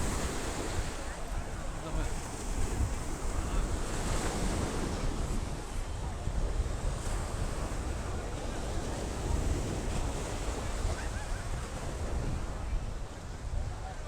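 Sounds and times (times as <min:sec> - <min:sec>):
ocean surf washing: 0:00.0 - 0:14.0
wind buffeting microphone: 0:00.0 - 0:14.0.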